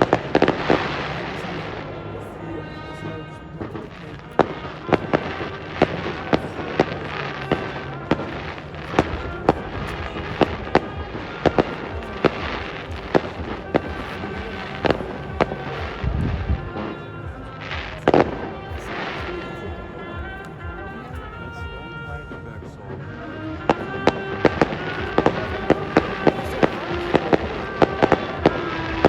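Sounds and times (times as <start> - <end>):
fireworks crackling: 0.0 - 2.0, 3.6 - 22.0, 23.1 - 29.0
fireworks bangs: 3.6 - 21.7, 23.6 - 29.0.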